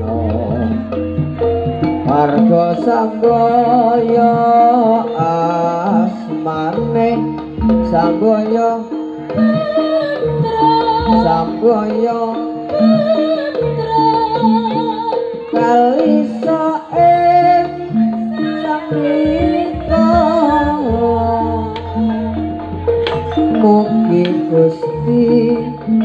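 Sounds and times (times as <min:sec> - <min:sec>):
instruments playing a melody: 0:00.0 - 0:26.0
person singing: 0:00.0 - 0:26.0.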